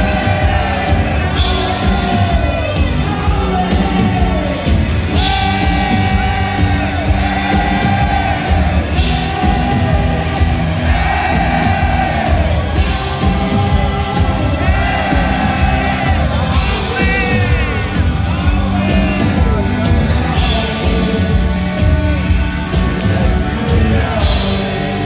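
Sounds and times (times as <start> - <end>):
person singing: 0.0 - 25.0
rock band playing live: 0.0 - 25.0.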